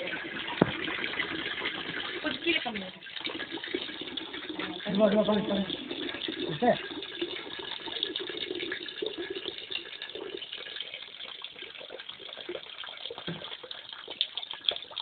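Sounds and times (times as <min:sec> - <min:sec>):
hot water pouring into metal bucket: 0:00.0 - 0:15.0
water splashing: 0:00.0 - 0:15.0.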